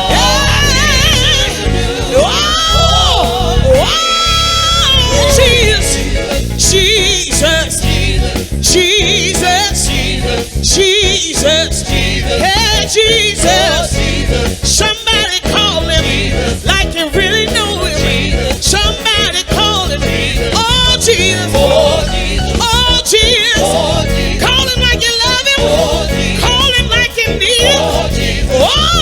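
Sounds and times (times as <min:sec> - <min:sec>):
bass: 0:00.0 - 0:29.0
drums: 0:00.0 - 0:29.0
person singing with vibrato: 0:00.0 - 0:29.0.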